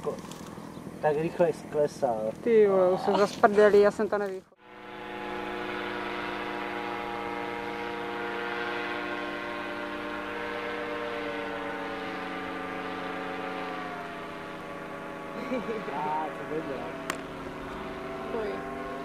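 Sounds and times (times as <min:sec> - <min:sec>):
paramotor engine droning: 0:00.0 - 0:19.0.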